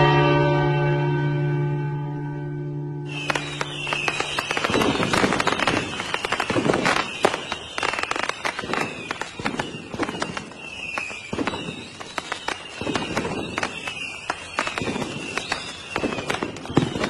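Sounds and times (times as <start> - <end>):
falling firework whistle: 3.1 - 17.0
fireworks crackling and popping: 3.1 - 17.0.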